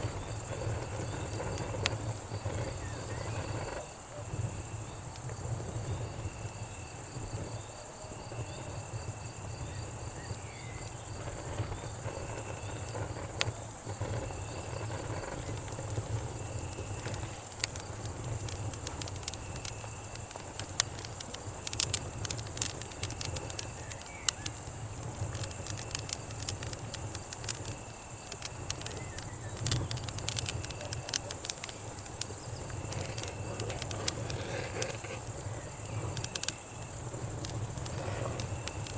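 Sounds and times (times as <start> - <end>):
campfire crackling and popping: 0.0 - 7.6, 8.3 - 38.9
cicada drone: 0.0 - 38.9
crickets chirping: 0.0 - 38.9.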